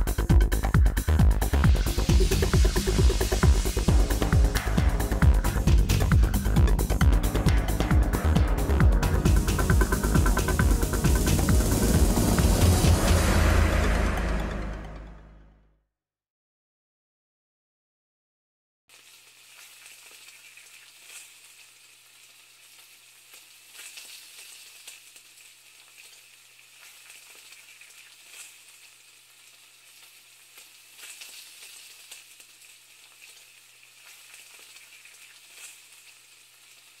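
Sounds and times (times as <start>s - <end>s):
food sizzling in a pan: 0.0s - 14.3s, 18.9s - 37.0s.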